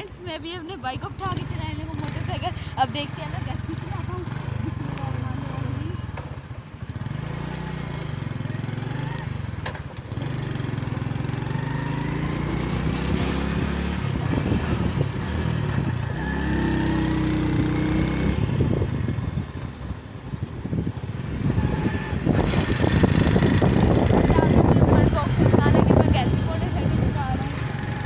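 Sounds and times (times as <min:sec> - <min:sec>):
small motorcycle engine running: 0:01.0 - 0:28.0.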